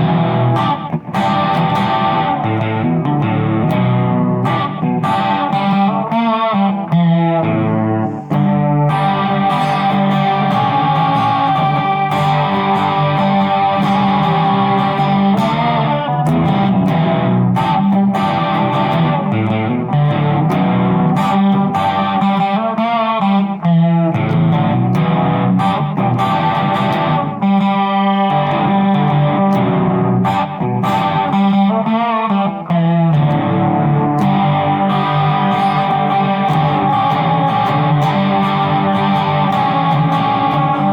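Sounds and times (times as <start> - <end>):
distorted electric guitar: 0.0 - 40.9.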